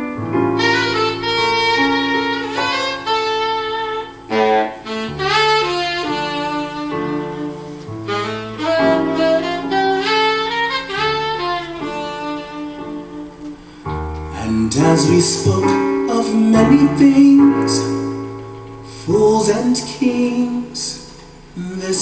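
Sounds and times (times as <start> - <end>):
saxophone playing melody: 0.0 - 18.4
sustained bass notes: 0.0 - 20.8.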